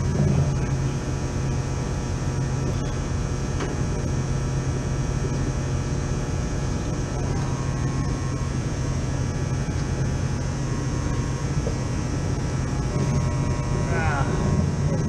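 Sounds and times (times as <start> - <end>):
air conditioning unit droning: 0.0 - 15.0.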